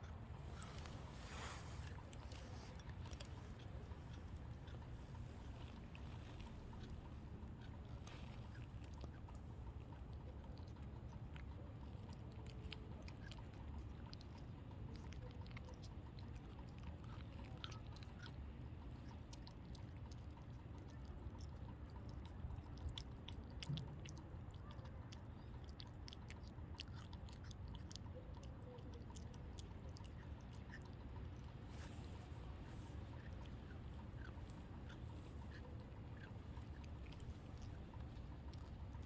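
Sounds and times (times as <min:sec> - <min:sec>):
faint crisp chewing crunches: 0:00.0 - 0:39.0
low steady rumble: 0:00.0 - 0:39.0.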